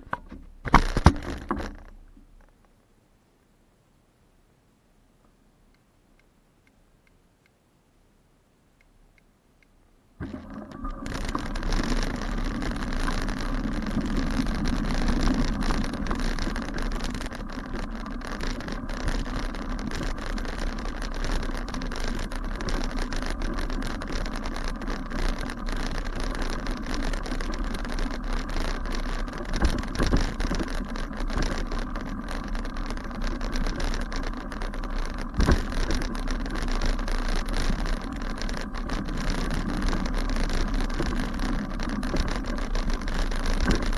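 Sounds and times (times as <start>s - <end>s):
bicycle tyre rumble: 0.0s - 2.5s, 10.2s - 43.9s
bicycle knocks and rattles: 0.0s - 2.6s, 10.2s - 43.9s.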